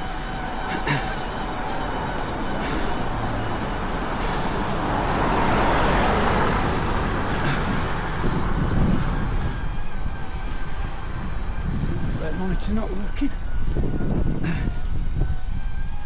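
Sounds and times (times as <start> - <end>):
car passing: 0.0 - 14.6
wind and road noise: 0.0 - 16.0.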